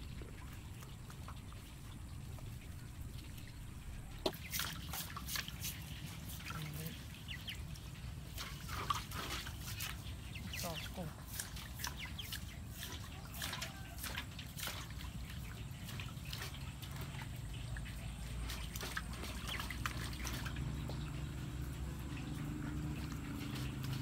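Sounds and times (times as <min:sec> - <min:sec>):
low steady hum: 0:00.0 - 0:24.0
small splashes and clicks: 0:00.0 - 0:24.0
water sloshing in a metal basin: 0:00.0 - 0:24.0.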